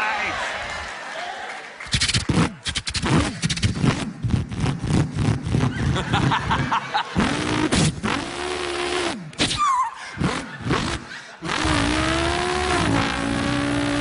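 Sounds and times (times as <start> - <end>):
man imitating engine revs: 2.4 - 14.0.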